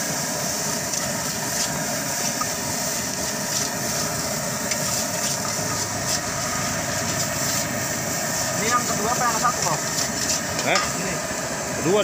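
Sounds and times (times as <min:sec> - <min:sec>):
spatula scraping wok: 0:00.0 - 0:11.3
rice stir-frying in a wok: 0:00.0 - 0:12.0.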